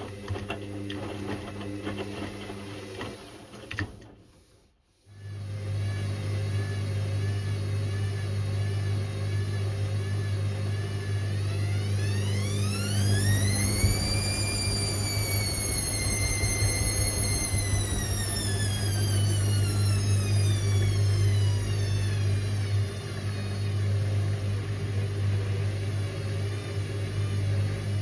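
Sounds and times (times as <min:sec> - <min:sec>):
washing machine motor humming: 0:00.0 - 0:28.0
washing machine whine: 0:00.0 - 0:28.0.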